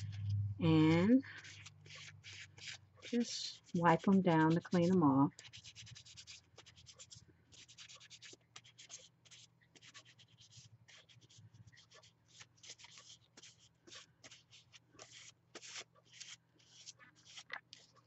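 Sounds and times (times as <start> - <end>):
paper towel rubbing nails: 0.0 - 18.0.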